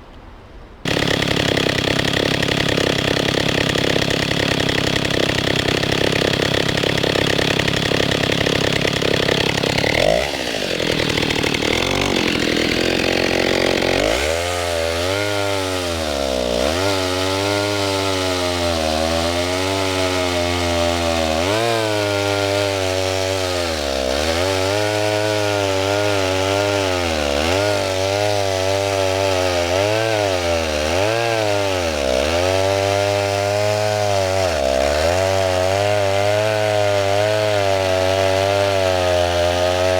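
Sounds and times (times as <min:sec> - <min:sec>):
chainsaw cutting wood: 0:00.8 - 0:39.9.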